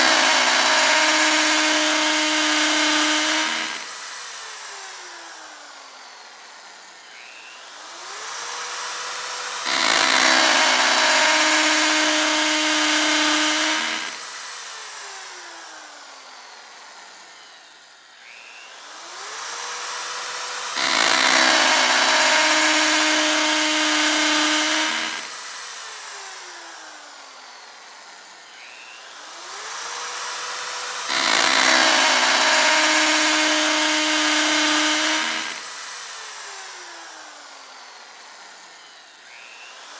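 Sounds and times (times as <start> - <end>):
electric drill drilling: 0.0 - 39.9.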